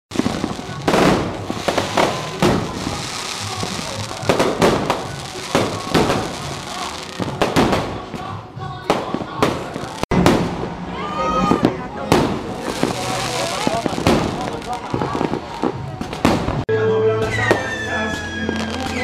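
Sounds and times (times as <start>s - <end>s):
fireworks bangs: 0.1s - 19.0s.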